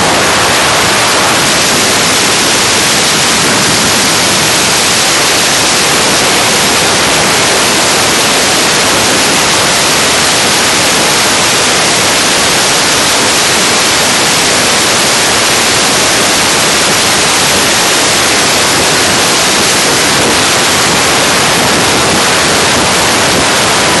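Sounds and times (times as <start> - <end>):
wind and road noise hiss: 0.0 - 24.0.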